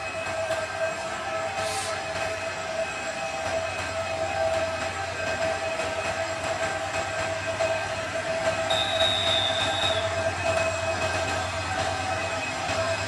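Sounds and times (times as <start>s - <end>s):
diesel locomotive engine drone: 0.0s - 13.0s
steady ringing tone: 0.0s - 13.0s.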